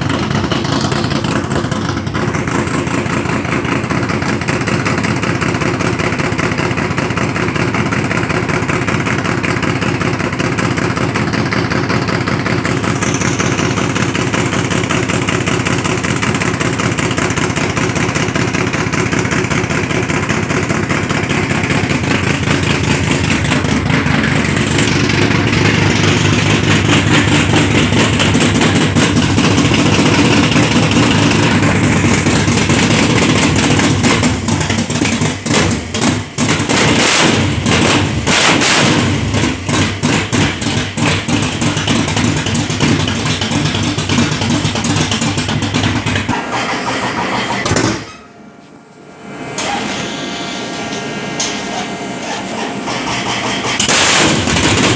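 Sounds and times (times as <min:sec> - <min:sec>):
car engine running: 0:00.0 - 0:54.9.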